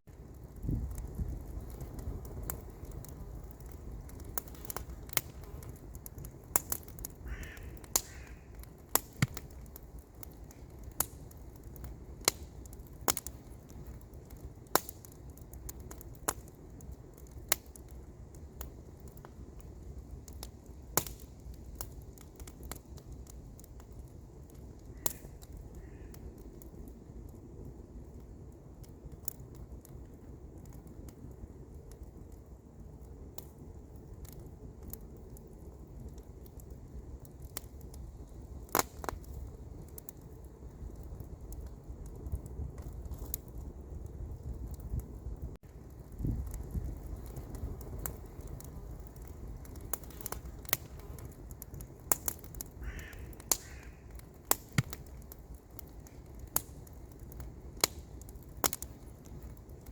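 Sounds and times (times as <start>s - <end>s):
campfire crackling and popping: 0.1s - 59.9s.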